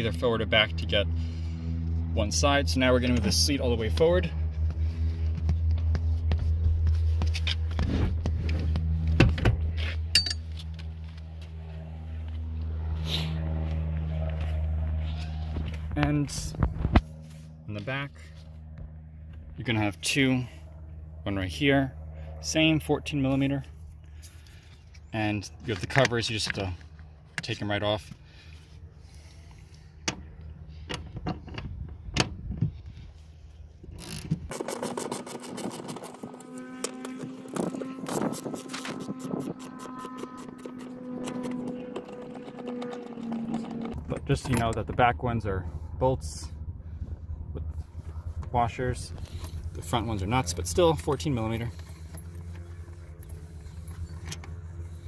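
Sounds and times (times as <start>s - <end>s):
steady low hum: 0.0s - 34.6s, 35.5s - 55.0s.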